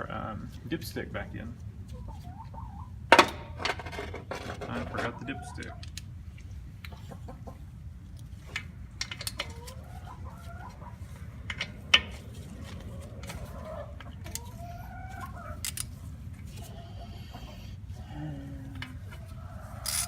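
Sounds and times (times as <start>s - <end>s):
chickens clucking: 1.0s - 20.0s.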